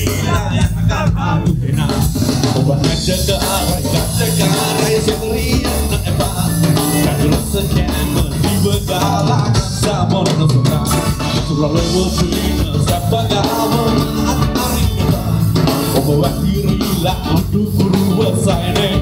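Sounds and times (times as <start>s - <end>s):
drums: 0.0s - 19.0s
person singing: 0.0s - 19.0s.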